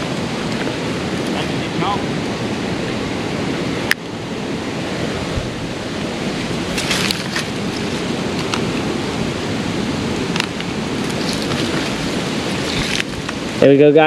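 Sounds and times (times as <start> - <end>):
creek water rushing: 0.0 - 14.0
wind on microphone: 0.0 - 14.0.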